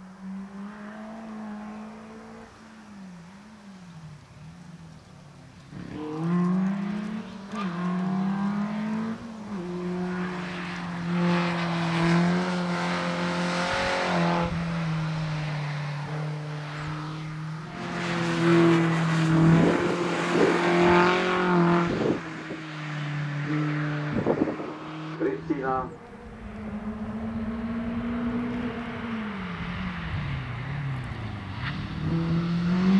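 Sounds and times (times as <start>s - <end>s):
race car engine at high revs: 0.0s - 32.9s.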